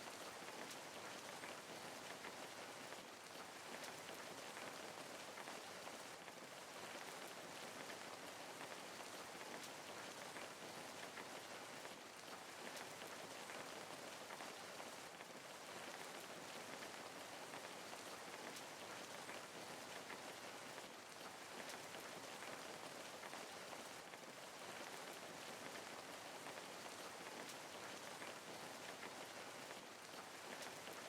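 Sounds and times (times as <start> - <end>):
steady rain patter: 0.0 - 31.0.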